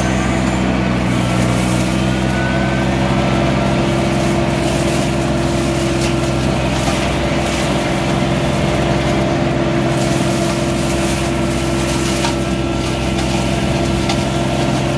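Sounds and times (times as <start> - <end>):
loader engine droning: 0.0 - 14.9.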